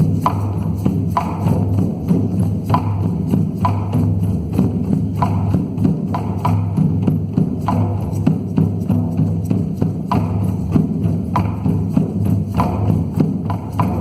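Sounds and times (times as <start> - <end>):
slow drum beat: 0.0 - 14.0.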